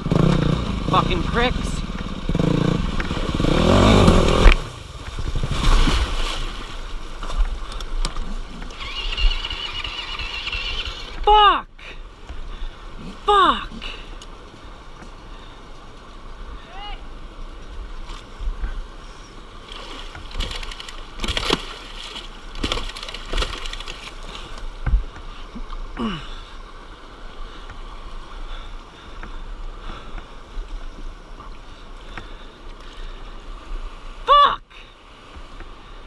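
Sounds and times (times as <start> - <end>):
creek water rushing: 0.0 - 36.0.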